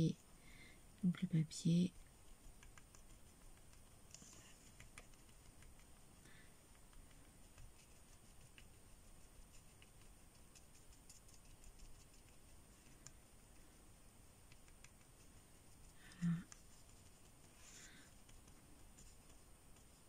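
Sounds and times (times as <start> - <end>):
brush dabbing paint on paper: 1.8 - 20.0.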